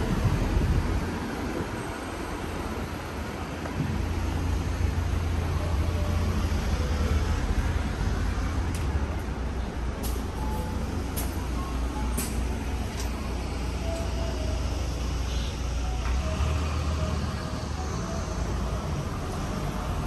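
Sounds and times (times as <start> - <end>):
bus engine rumbling: 0.0 - 20.0
street traffic: 0.0 - 20.0.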